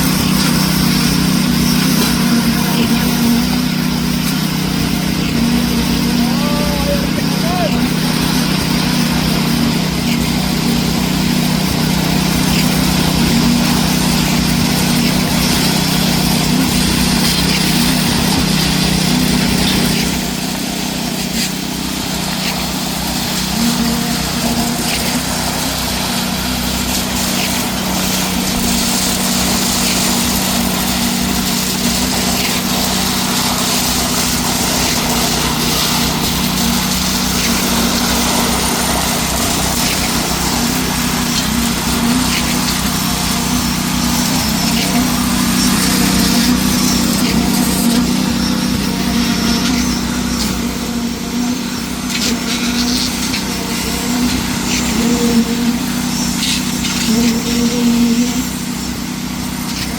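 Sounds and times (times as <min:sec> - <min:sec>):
pump truck engine running: 0:00.0 - 0:59.9.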